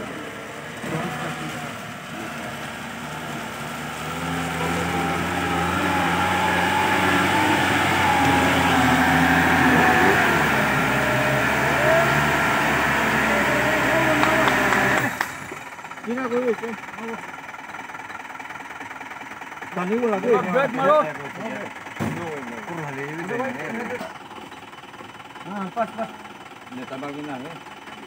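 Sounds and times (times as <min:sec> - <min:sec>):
truck engine pulling uphill: 0:00.0 - 0:28.0.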